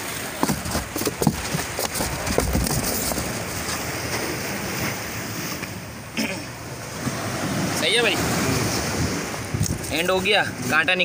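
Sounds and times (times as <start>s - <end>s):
wind buffeting microphone: 0.0s - 5.9s, 6.9s - 10.8s
surf on rocky shore: 0.0s - 11.0s.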